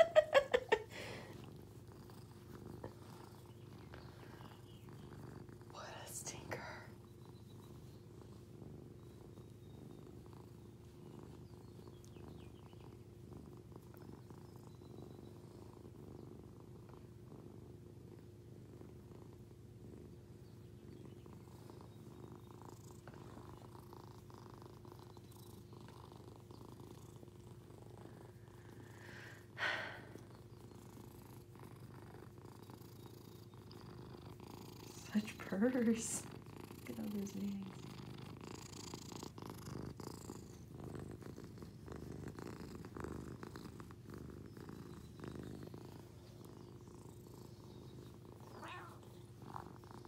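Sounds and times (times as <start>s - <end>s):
cat purring: 0.0s - 50.0s.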